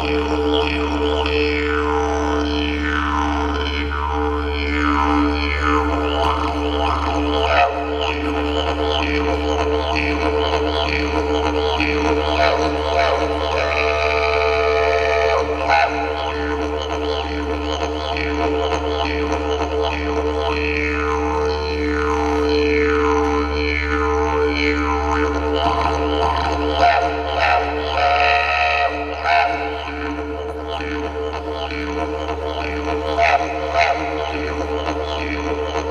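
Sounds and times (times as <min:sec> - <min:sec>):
didgeridoo drone: 0:00.0 - 0:35.9.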